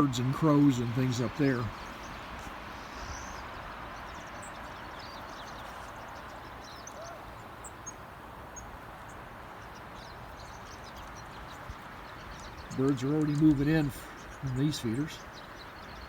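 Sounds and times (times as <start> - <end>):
blizzard wind: 0.0 - 16.0
small birds chirping: 0.0 - 16.0.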